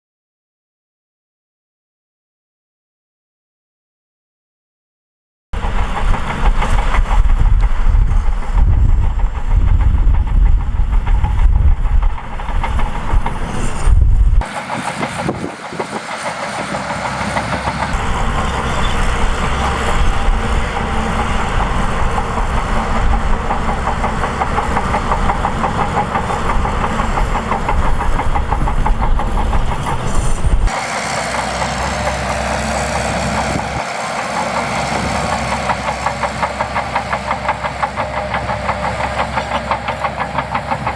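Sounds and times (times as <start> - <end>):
bulldozer diesel engine running: 5.6 - 40.9.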